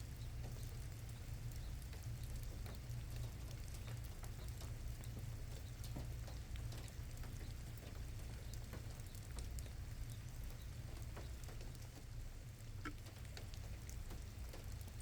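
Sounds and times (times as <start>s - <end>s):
low steady rumble: 0.0s - 15.0s
rain falling: 0.0s - 15.0s.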